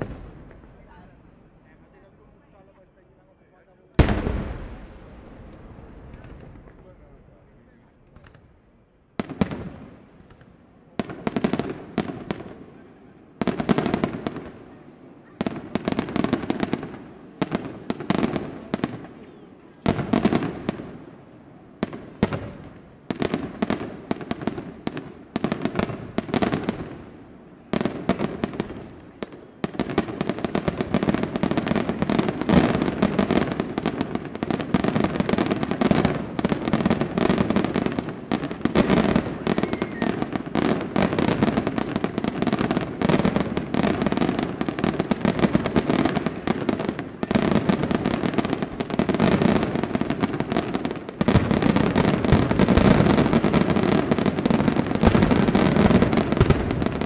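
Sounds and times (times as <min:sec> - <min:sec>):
fireworks bursting: 0:00.0 - 0:02.8, 0:04.0 - 0:21.2, 0:21.8 - 0:57.0.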